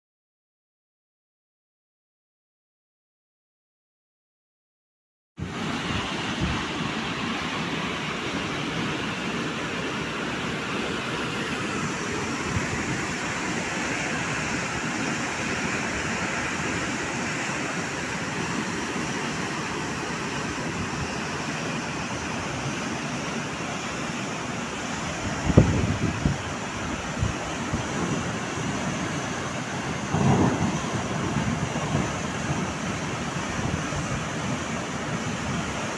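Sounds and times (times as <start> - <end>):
heavy rain: 5.4 - 35.9
torrent of water rushing: 5.4 - 35.9.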